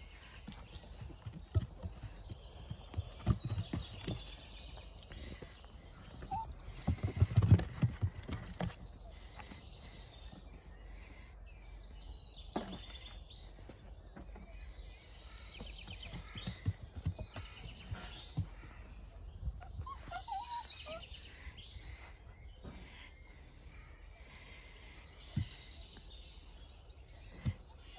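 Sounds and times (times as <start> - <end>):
puppies thumping and scuffling on dirt: 0.0 - 11.3, 12.1 - 23.1, 24.5 - 27.9
songbirds trilling and chirping: 0.0 - 27.9.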